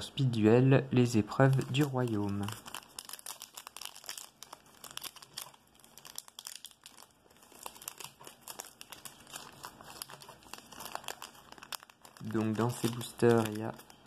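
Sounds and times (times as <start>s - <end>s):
foil wrapper crinkling and tearing: 1.3s - 14.0s.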